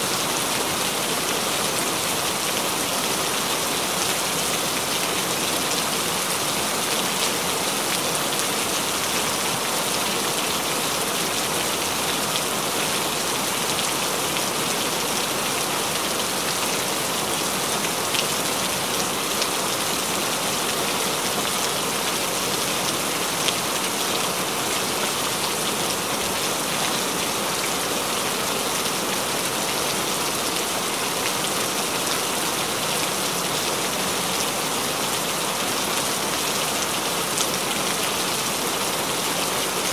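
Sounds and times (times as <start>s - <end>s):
rain falling on wet ground: 0.0s - 39.9s.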